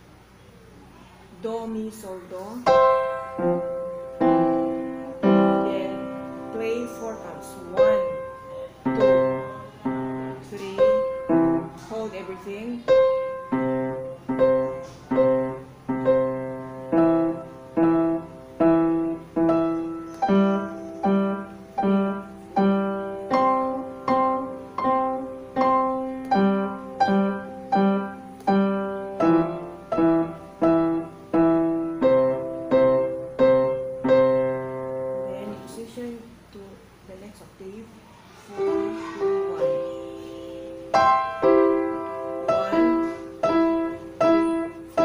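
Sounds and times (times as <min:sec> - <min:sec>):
upright piano arpeggios: 0:02.6 - 0:12.0, 0:12.8 - 0:35.8, 0:38.6 - 0:45.0.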